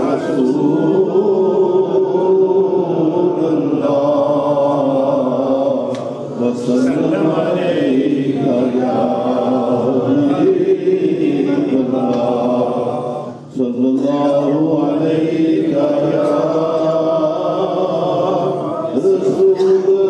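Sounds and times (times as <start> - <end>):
man chanting devotional poem: 0.0 - 20.0.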